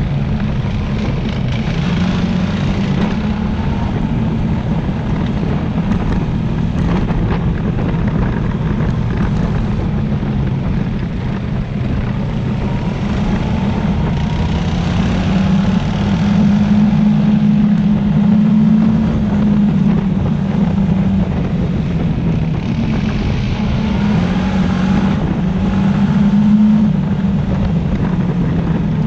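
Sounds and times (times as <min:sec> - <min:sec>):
quad bike engine running: 0:00.0 - 0:29.0.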